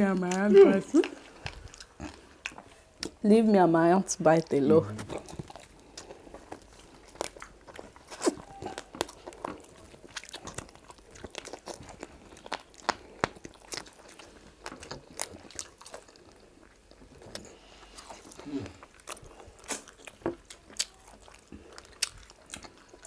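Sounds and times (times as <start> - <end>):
chewing with mouth smacks: 0.0 - 3.2, 4.4 - 23.0.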